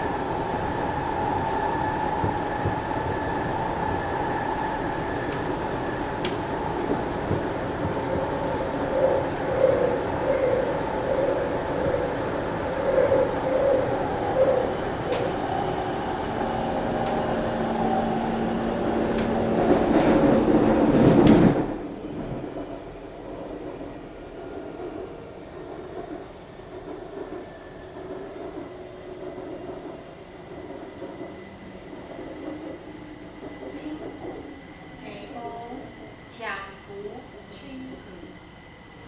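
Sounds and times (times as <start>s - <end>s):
metro train running: 0.0s - 39.0s.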